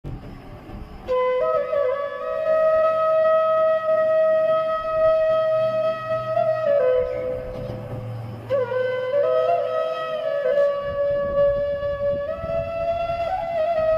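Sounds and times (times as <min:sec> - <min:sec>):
flute holding a long note: 0:01.0 - 0:13.9.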